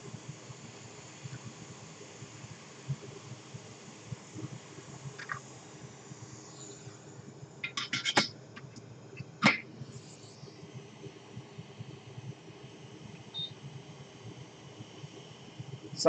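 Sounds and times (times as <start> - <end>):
hot air blower hissing: 0.0 - 16.0.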